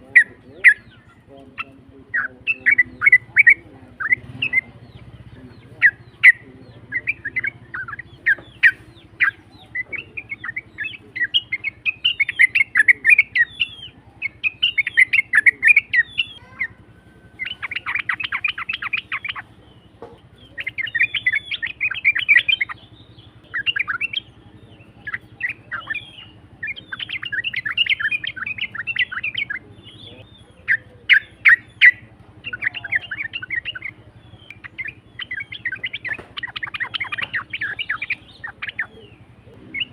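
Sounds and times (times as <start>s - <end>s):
bulbul chattering song: 0.0s - 39.9s
bird rattling trill: 5.8s - 29.6s, 30.6s - 39.9s.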